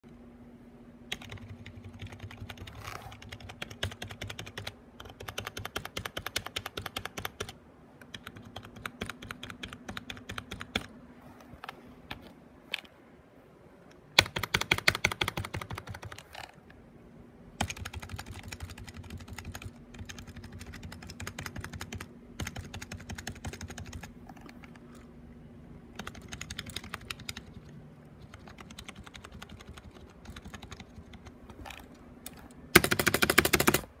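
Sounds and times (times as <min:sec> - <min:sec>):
keyboard keys clicking: 0:01.1 - 0:10.9, 0:14.2 - 0:16.6, 0:17.6 - 0:24.9, 0:26.0 - 0:33.9.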